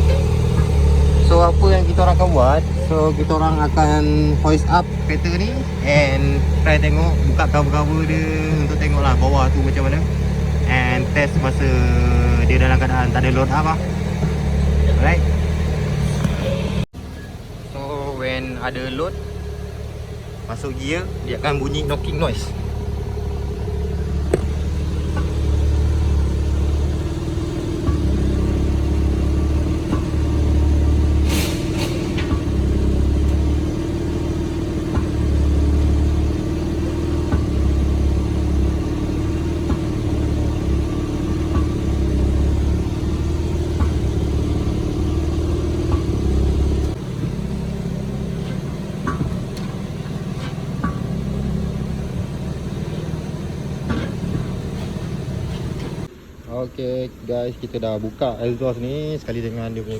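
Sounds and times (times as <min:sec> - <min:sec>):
car engine running: 0:00.0 - 0:56.4, 0:57.6 - 0:59.9.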